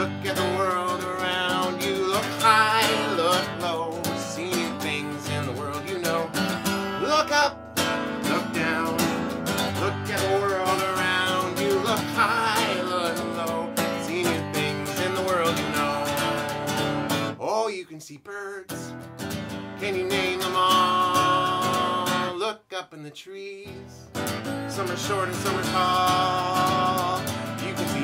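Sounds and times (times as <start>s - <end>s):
acoustic guitar strumming: 0.0s - 17.5s, 18.7s - 22.6s, 23.6s - 28.0s
man singing: 0.0s - 28.0s.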